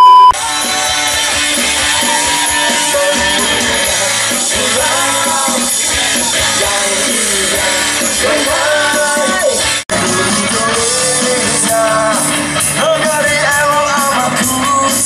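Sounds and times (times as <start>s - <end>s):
drums: 0.0s - 15.0s
bass guitar: 0.3s - 15.0s
electric guitar: 0.4s - 15.0s
man singing: 0.4s - 15.0s.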